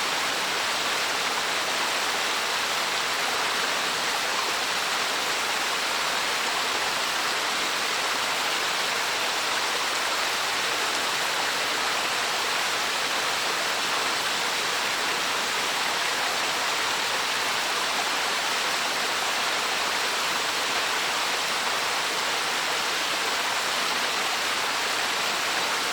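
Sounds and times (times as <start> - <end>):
waterfall rushing and splashing: 0.0 - 25.9.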